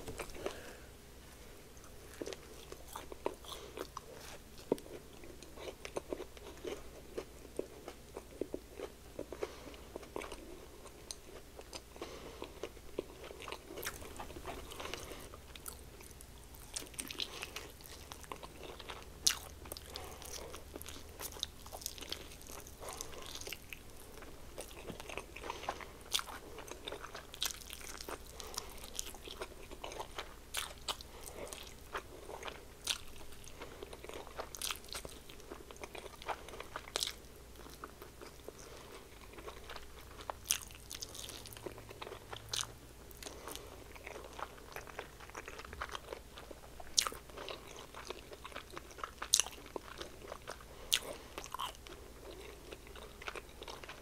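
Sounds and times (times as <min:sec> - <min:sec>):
crunching fried chicken: 0:01.8 - 0:54.0.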